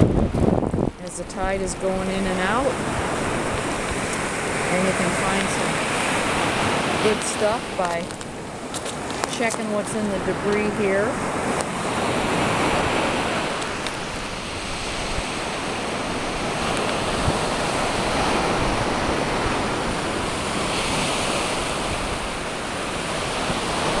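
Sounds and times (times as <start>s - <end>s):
surf waves breaking: 0.0s - 24.0s
wind noise on microphone: 0.0s - 24.0s.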